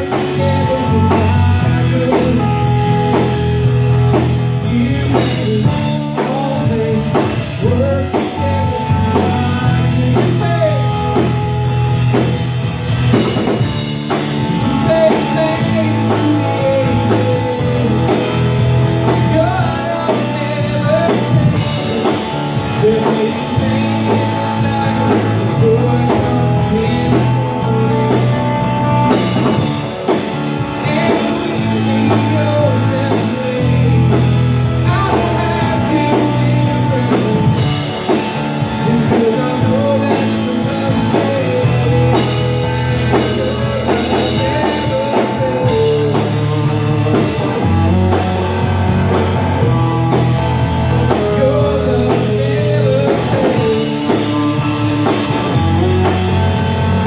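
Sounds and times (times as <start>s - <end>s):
live band playing: 0.0s - 57.0s
man singing: 0.0s - 57.0s.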